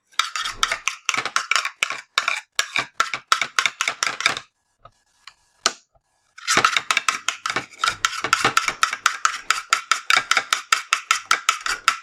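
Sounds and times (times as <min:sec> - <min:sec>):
spoon stirring slime in container: 0:00.2 - 0:04.4, 0:06.4 - 0:12.0.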